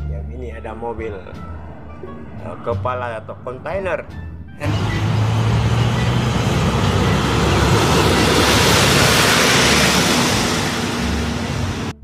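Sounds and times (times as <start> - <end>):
truck driving past: 0.7 - 12.0.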